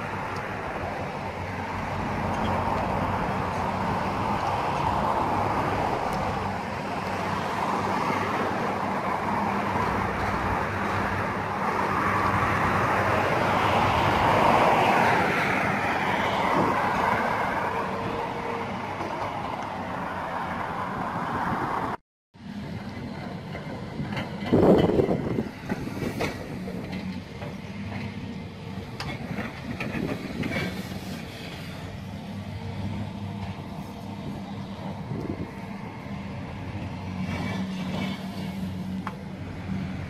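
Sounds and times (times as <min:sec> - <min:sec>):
road traffic passing: 0:00.0 - 0:40.0.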